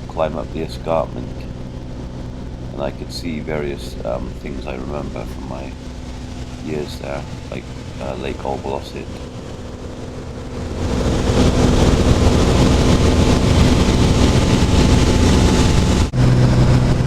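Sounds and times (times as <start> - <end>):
propeller aircraft engine droning: 0.0 - 17.0
rush of air: 0.0 - 17.0.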